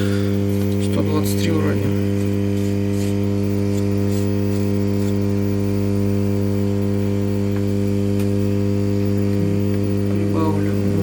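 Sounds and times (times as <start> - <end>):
soldering station electrical buzz: 0.0 - 11.0.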